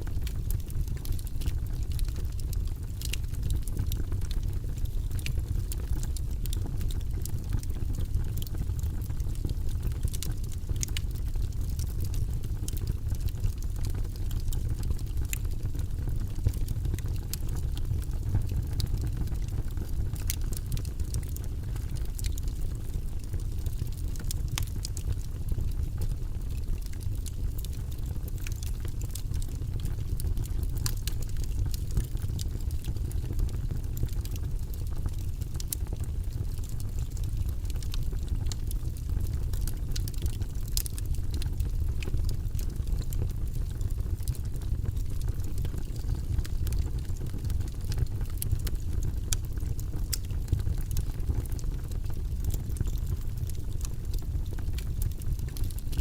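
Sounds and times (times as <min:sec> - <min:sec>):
fire crackles and pops: 0:00.0 - 0:56.0
flames rumbling: 0:00.0 - 0:56.0.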